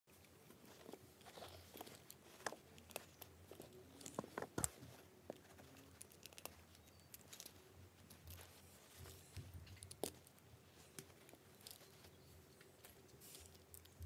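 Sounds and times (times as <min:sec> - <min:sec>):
plastic parts clicking: 0:00.8 - 0:14.0.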